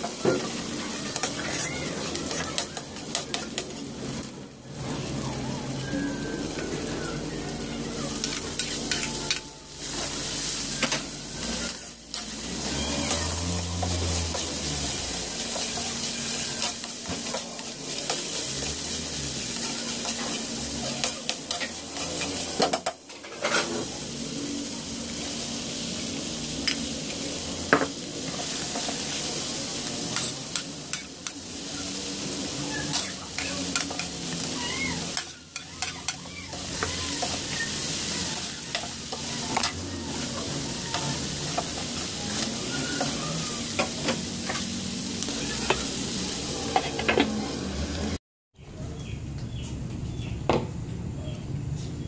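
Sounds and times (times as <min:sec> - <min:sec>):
metal spatula scraping a wok: 0:00.0 - 0:05.1, 0:08.1 - 0:24.1, 0:26.6 - 0:47.5
food sizzling in hot oil: 0:00.0 - 0:48.2.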